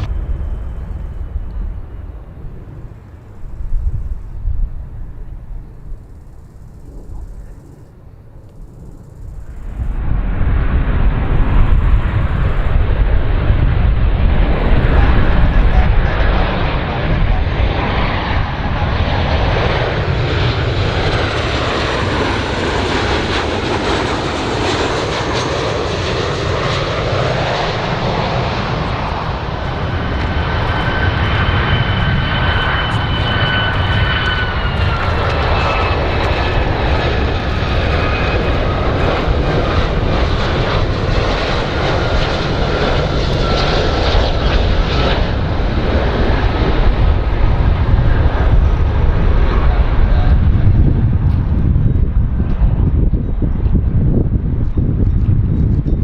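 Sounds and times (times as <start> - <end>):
aircraft engines running: 0.0 - 56.0
faint whine dropping in pitch: 0.0 - 56.0.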